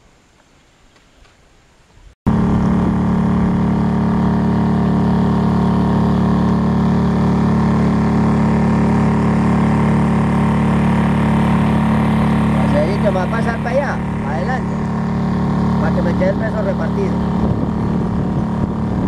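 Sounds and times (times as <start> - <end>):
boat motor droning: 2.3 - 19.0.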